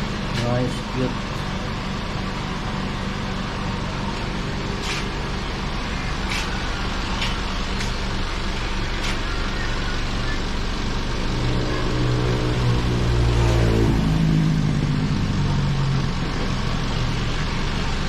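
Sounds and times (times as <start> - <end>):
vehicle engine hum and road noise: 0.0 - 18.0.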